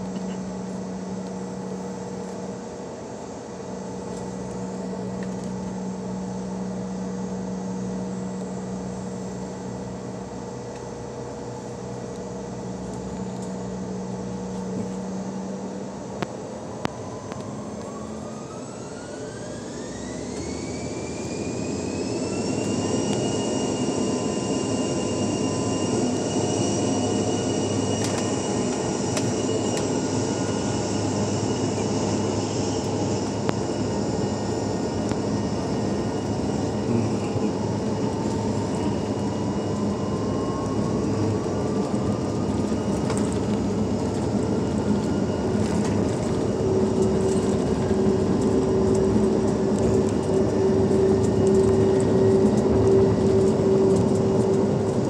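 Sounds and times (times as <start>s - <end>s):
jet engine cabin hum: 0.0s - 55.0s
jet engines spooling up: 0.0s - 55.0s.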